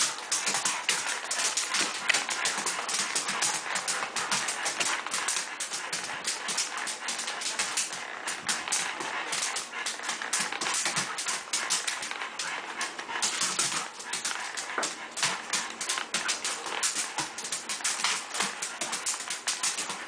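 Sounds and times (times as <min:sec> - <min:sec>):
dog claws scrabbling on floor: 0:00.0 - 0:20.0.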